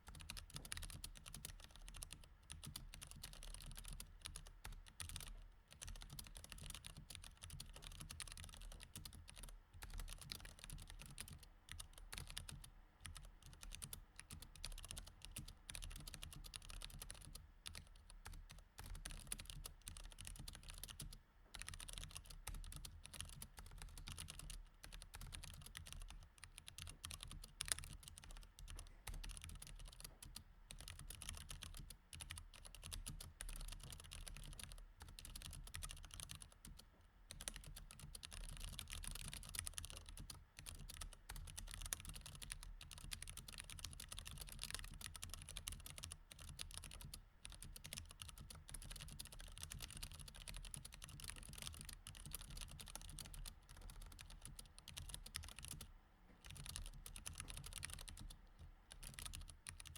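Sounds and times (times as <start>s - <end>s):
mechanical keyboard typing: 0.1s - 59.9s.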